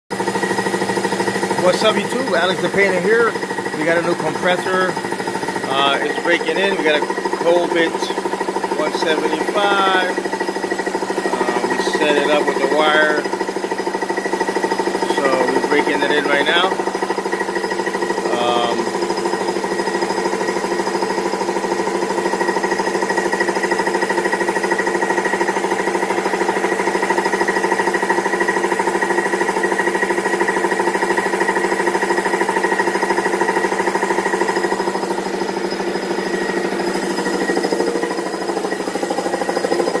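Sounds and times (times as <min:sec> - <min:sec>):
air compressor pulsing hum: 0:00.1 - 0:40.0.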